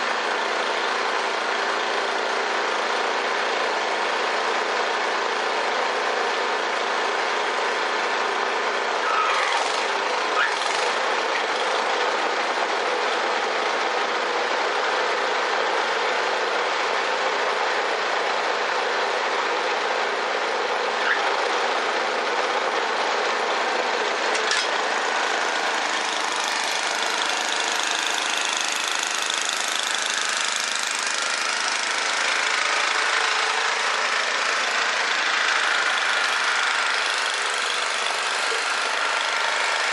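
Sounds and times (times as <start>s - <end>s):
snowblower mechanical racket: 0.0s - 39.9s.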